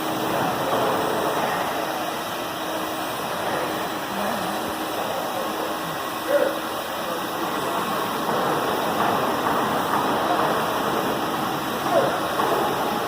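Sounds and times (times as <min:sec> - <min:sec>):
vacuum running: 0:00.0 - 0:13.0.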